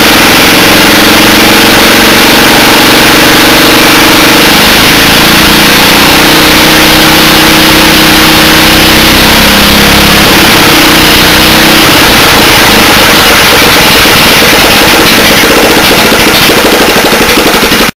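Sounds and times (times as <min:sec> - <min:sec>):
single-cylinder engine running: 0:00.0 - 0:18.0.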